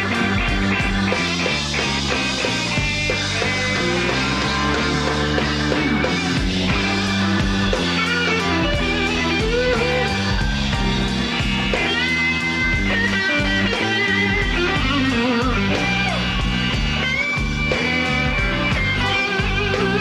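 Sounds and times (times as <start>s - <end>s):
band music: 0.0s - 20.0s
electric guitar lead notes: 0.0s - 20.0s.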